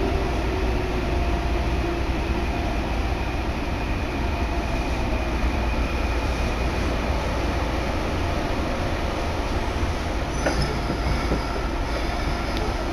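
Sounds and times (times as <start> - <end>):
train wheels rumbling on track: 0.0 - 12.9.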